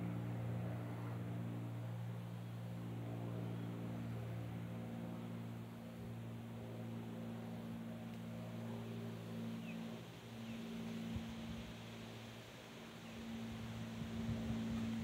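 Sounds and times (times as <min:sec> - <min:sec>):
low hum of held tones: 0:00.0 - 0:15.0.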